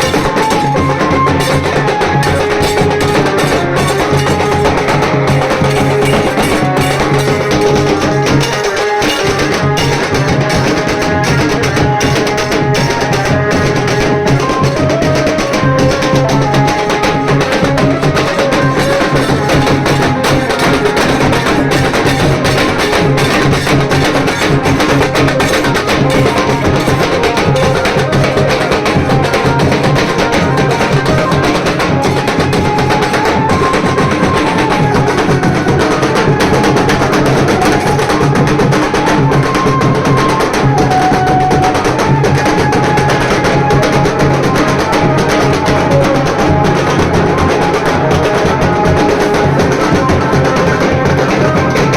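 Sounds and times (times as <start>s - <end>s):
dhol drums playing fast: 0.0s - 51.9s
melody line over drums: 0.0s - 51.9s.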